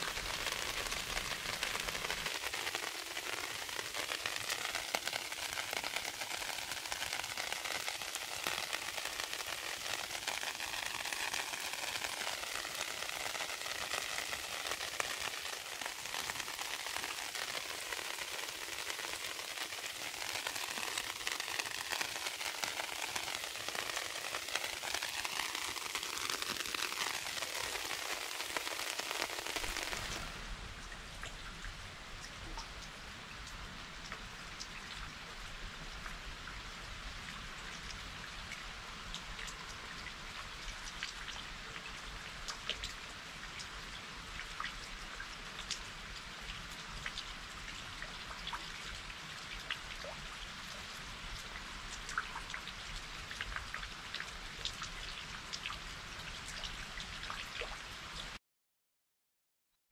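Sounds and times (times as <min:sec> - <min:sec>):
rain falling: 0:00.0 - 0:58.4.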